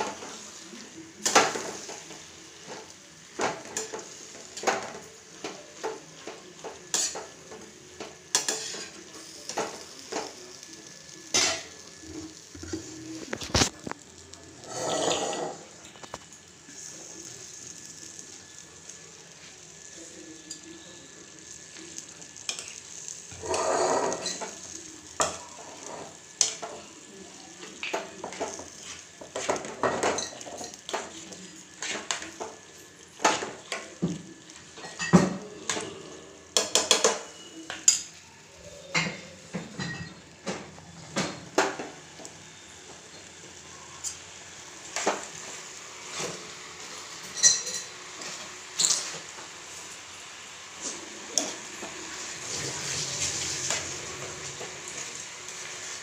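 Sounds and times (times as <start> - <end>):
low sizzle: 0.0 - 56.0.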